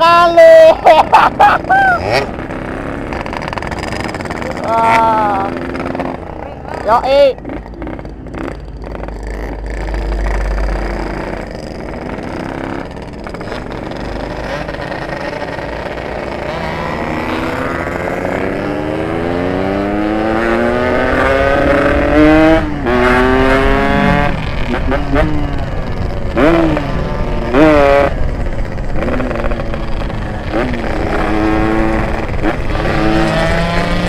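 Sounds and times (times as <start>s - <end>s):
two-stroke motorcycle engine accelerating: 0.4s - 34.0s.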